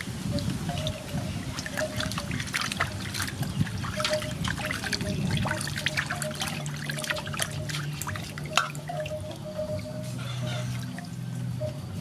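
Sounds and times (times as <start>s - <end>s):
water splashing in metal basin: 0.0s - 11.2s.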